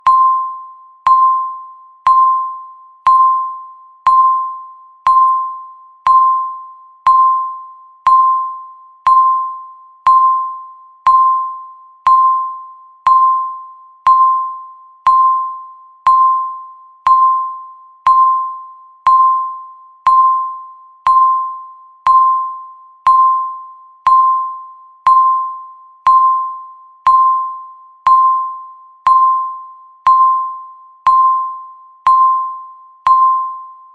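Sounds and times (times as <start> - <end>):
timer beeping: 0.0 - 33.9.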